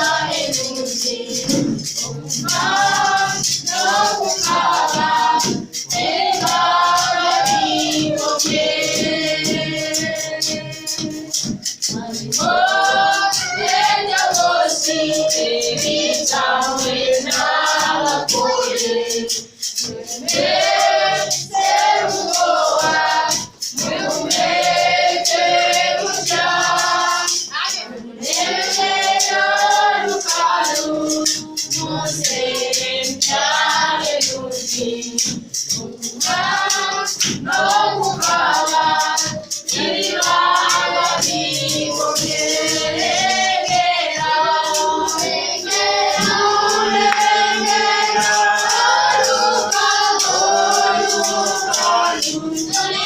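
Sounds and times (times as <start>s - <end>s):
choir singing: 0.0s - 53.0s
percussion steady beat: 0.0s - 53.0s.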